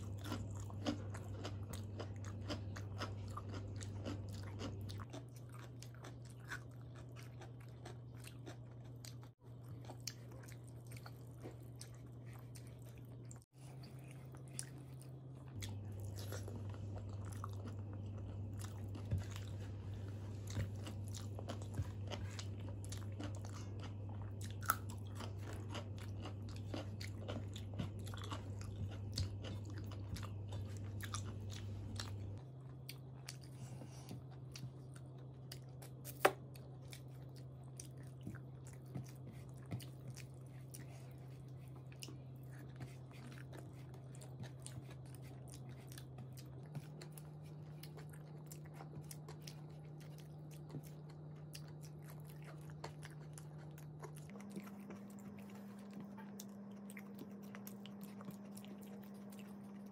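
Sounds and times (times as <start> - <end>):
low electrical hum: 0.0 - 59.9
person chewing food: 0.0 - 59.9.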